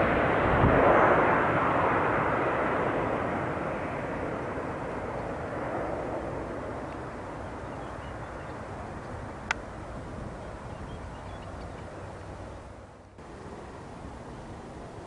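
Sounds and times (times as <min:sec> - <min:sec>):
jet engine rumbling rush: 0:00.0 - 0:15.0.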